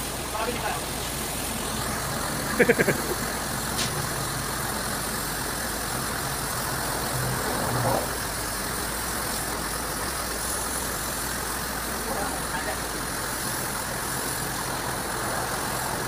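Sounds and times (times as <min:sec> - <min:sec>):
high-pressure water jet hissing: 0:00.0 - 0:16.0
steady motor drone: 0:00.0 - 0:16.0.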